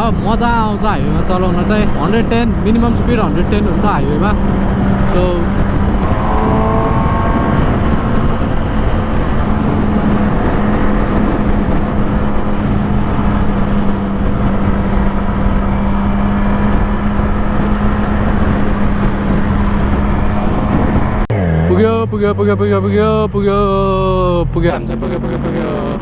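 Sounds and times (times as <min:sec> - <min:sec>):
motorcycle engine drone: 0:00.0 - 0:26.0
wind and road rush: 0:00.0 - 0:26.0.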